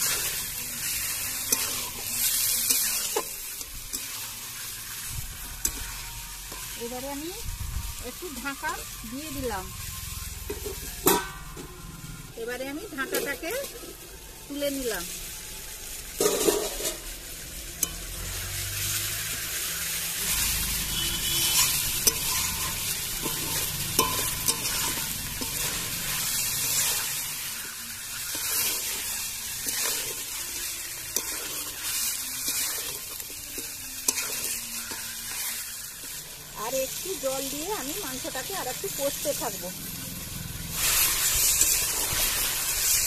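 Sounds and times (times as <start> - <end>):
metal spatula scraping a pan: 0.0 - 7.2, 12.5 - 14.0, 16.0 - 43.0
chicken sizzling in a pan: 0.0 - 43.0.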